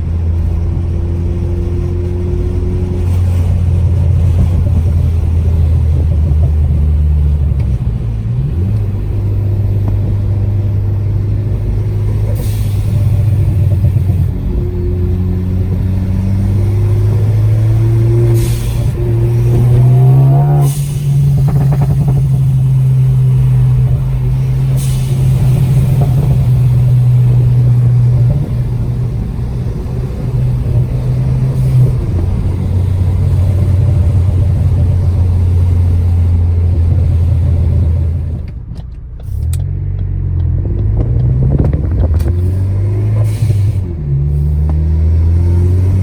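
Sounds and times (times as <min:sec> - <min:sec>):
exhaust crackles and pops: 0:00.0 - 0:44.9
car engine droning: 0:00.0 - 0:46.0.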